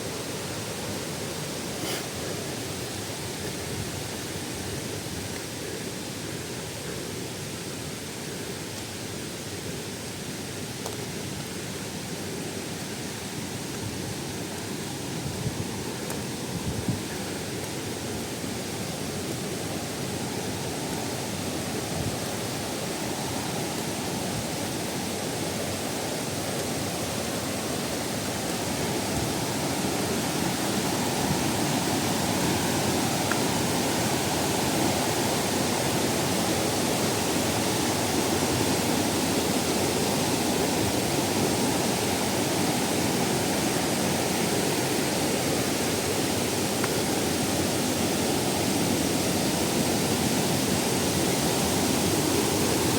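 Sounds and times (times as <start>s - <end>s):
waterfall rushing and splashing: 0.0s - 52.9s.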